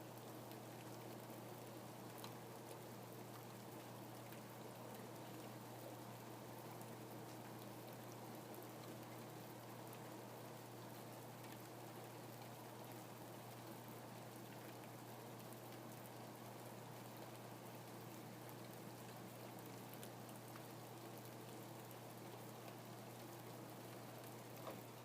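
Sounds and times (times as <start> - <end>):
soft rain falling: 0.0 - 25.0.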